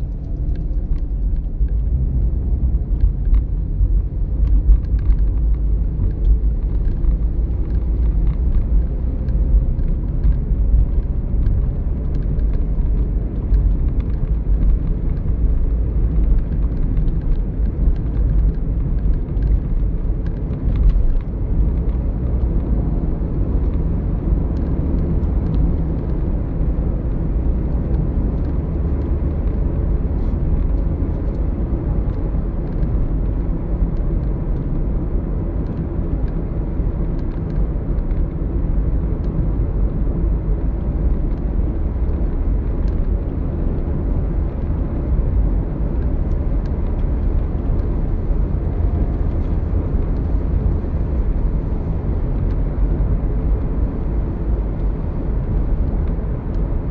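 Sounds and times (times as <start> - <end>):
car cabin road and engine rumble: 0.0 - 56.9.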